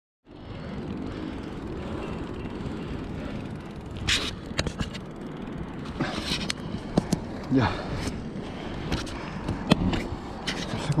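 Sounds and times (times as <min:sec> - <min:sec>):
bike tyres rumbling on road: 0:00.2 - 0:11.0
bike tyres clacking on bricks: 0:01.0 - 0:11.0.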